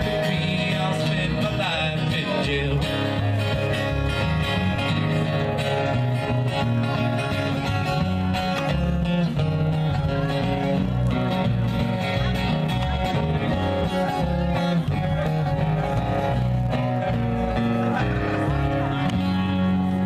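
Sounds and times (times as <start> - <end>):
acoustic guitar strumming: 0.0 - 20.0
bass line: 0.0 - 20.0.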